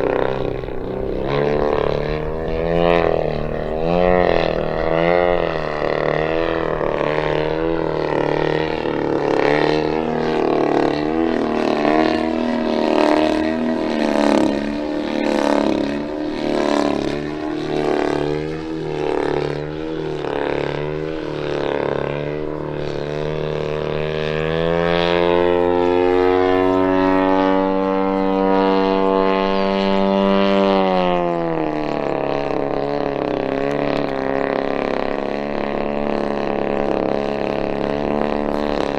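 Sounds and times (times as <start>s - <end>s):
model plane engine: 0.0s - 38.9s.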